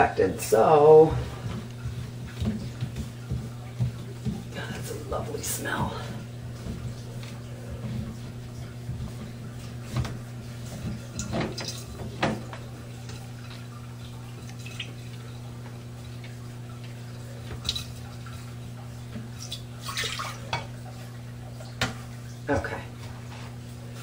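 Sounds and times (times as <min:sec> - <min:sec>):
water dripping and trickling: 0:00.4 - 0:24.0.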